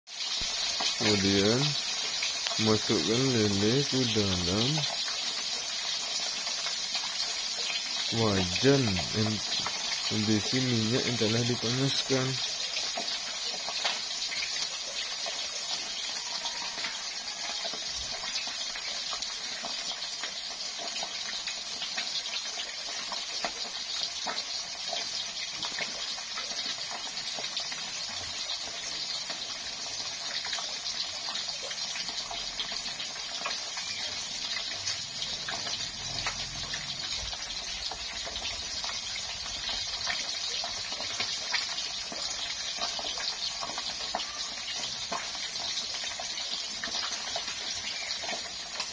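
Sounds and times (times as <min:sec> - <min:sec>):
fish sizzling in hot oil: 0:00.1 - 0:48.9.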